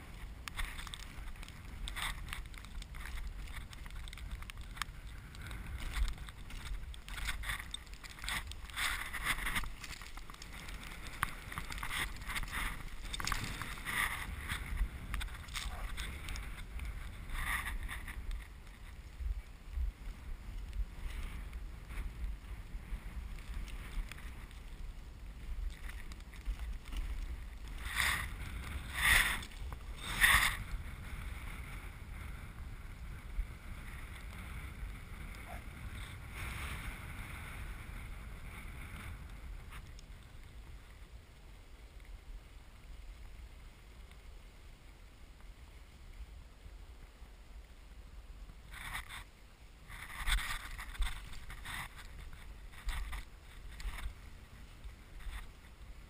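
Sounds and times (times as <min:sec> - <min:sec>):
sled runners scraping on snow: 0:00.0 - 0:44.0, 0:48.0 - 0:56.0.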